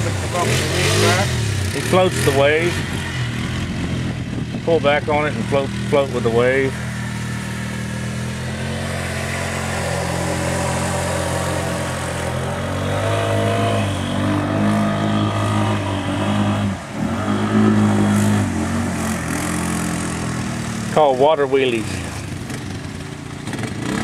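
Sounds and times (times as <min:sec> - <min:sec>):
engine running and revving: 0:00.0 - 0:24.0.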